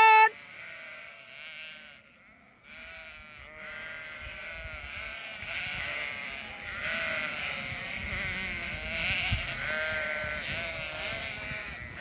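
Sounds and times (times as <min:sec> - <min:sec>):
sheep bleating: 0:00.0 - 0:12.0.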